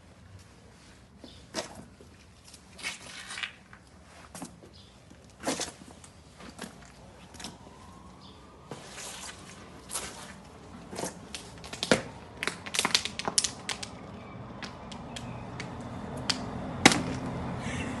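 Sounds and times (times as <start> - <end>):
footsteps on a street: 0.0 - 17.6.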